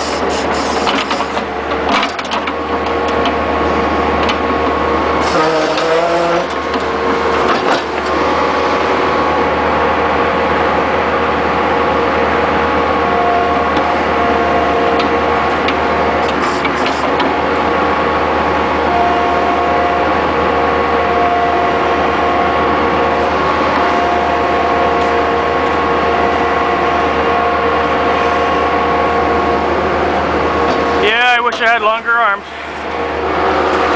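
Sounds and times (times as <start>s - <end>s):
diesel engine running: 0.0s - 33.9s
high whine: 2.6s - 33.9s.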